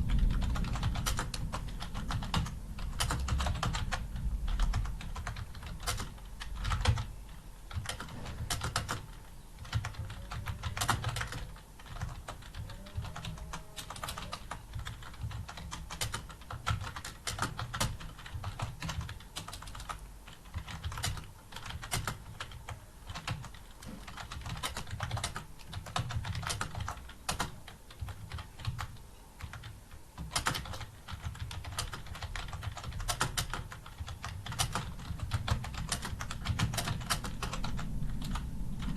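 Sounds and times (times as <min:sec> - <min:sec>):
typing on computer keyboard: 0:00.0 - 0:38.9.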